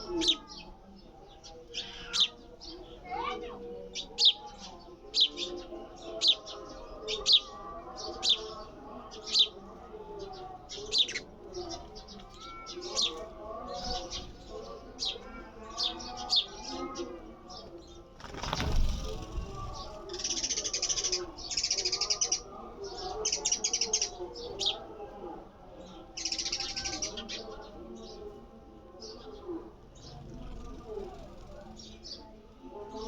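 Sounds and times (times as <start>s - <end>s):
sparrow chirping: 0.0s - 25.0s, 25.7s - 28.3s, 28.9s - 33.0s.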